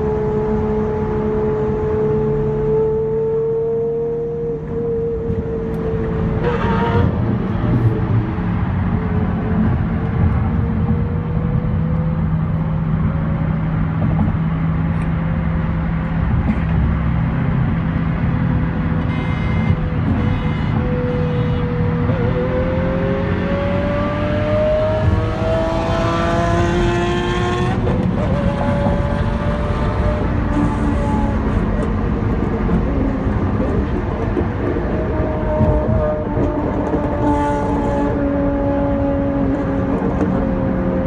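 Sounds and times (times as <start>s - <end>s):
road and wind noise in car: 0.0s - 41.0s.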